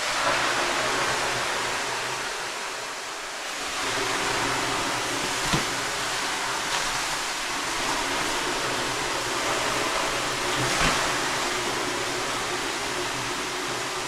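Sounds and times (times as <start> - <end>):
steam hissing off hot stones: 0.0 - 14.0.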